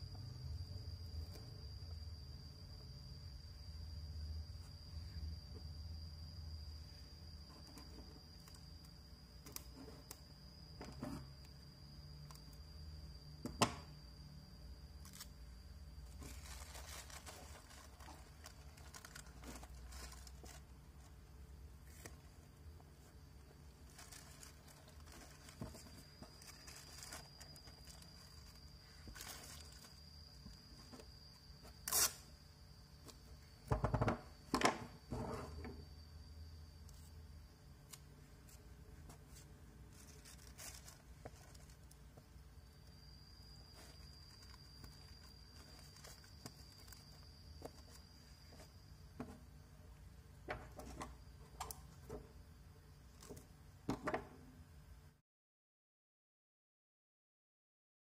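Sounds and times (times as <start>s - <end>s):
faint steady high tone: 0.0s - 52.4s.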